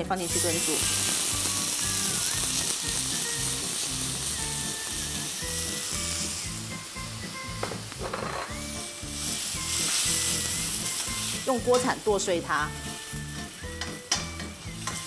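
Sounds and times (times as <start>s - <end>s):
onion and garlic sizzling in pot: 0.0s - 15.0s.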